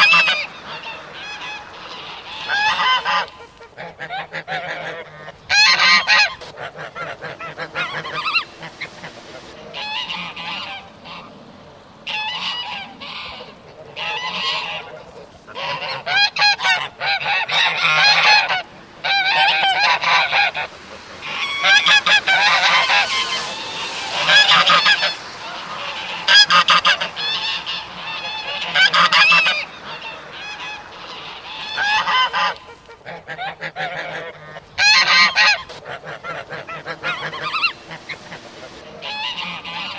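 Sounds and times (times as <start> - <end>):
geese honking: 0.0 - 39.9.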